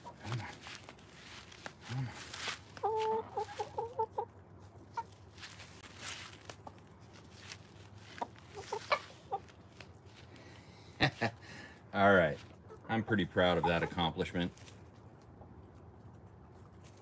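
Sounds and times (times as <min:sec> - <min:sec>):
hens clucking: 0:00.0 - 0:16.8.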